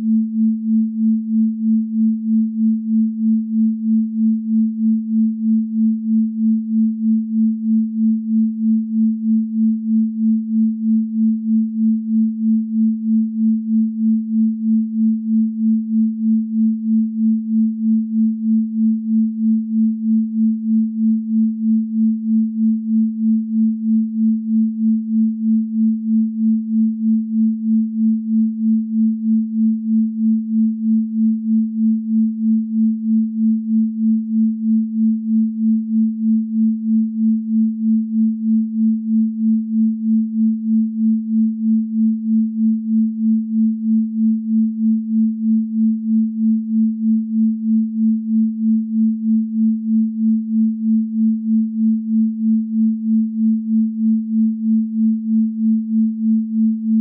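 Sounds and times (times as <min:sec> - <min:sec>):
pulsing sine tone: 0:00.0 - 0:57.0.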